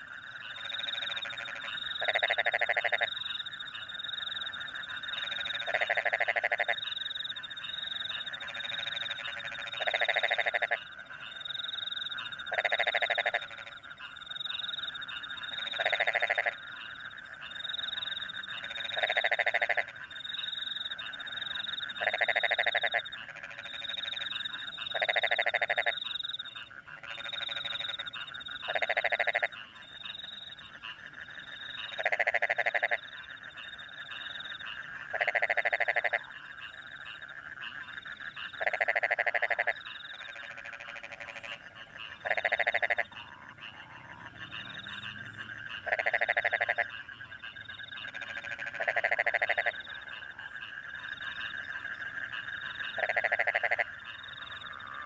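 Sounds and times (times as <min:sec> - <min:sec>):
frogs croaking in chorus: 0:00.0 - 0:55.0
trilling frogs and crickets: 0:00.0 - 0:55.0.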